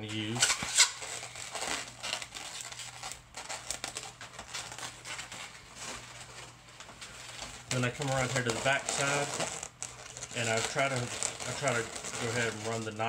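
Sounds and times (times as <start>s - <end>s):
rubber balloon being twisted: 0.0s - 13.0s.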